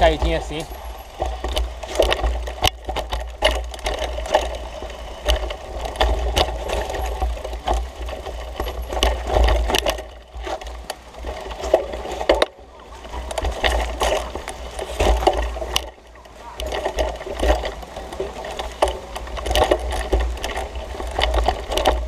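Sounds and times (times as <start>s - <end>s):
bike frame rattling and clicking: 0.0s - 22.0s
wheels knocking on bumps: 0.0s - 22.0s.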